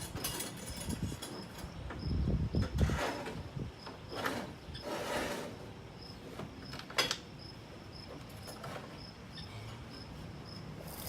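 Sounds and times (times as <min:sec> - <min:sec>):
crickets chirping: 0:00.1 - 0:11.0.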